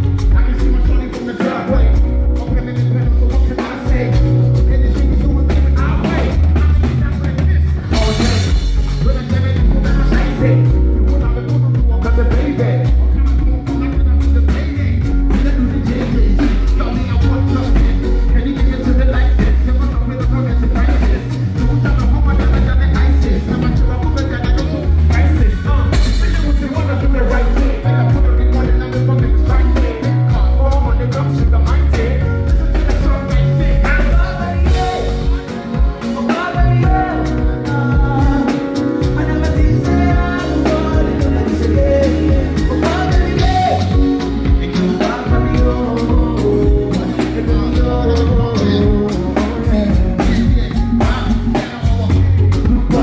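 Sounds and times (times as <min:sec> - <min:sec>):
heavy bass line: 0:00.0 - 0:53.0
live band playing: 0:00.0 - 0:53.0
person singing: 0:00.0 - 0:53.0.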